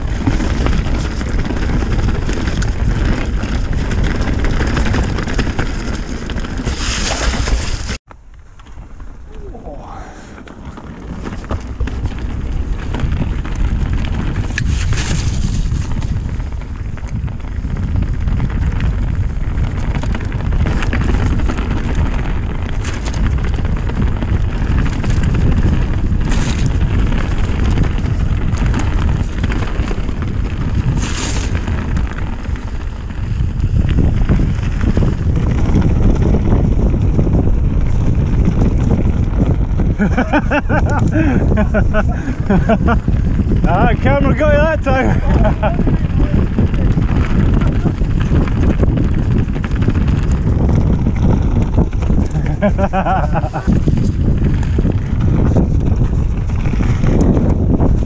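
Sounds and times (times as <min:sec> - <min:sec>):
bike knocks and rattles: 0:00.0 - 0:09.2, 0:09.8 - 0:58.0
tyres rolling over dirt: 0:00.0 - 0:58.0
wind buffeting microphone: 0:00.0 - 0:58.0.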